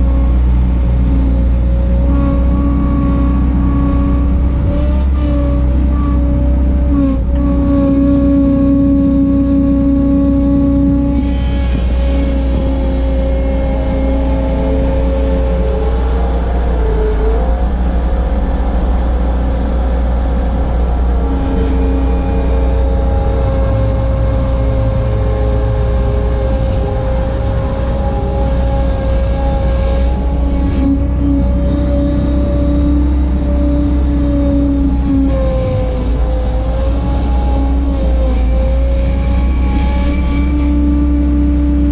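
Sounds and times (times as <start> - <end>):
hydraulic whining: 0.0 - 41.9
skid steer engine rumbling: 0.0 - 41.9.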